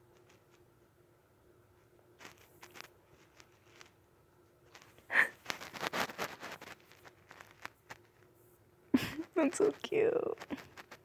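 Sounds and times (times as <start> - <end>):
fingers rustling cat fur: 1.7 - 11.0.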